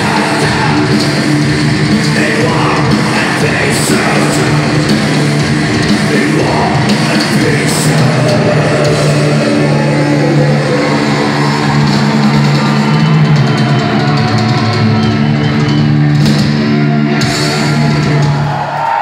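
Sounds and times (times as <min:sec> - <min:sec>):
thrash metal band playing: 0:00.0 - 0:18.7.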